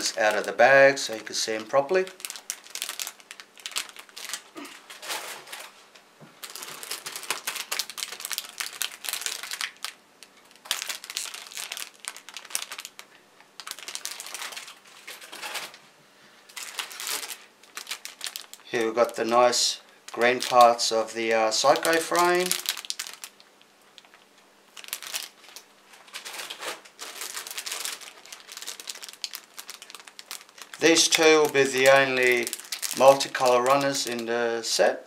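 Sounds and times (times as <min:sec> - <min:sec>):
plastic bags crinkling: 0:00.0 - 0:05.7, 0:06.4 - 0:15.8, 0:16.5 - 0:34.3.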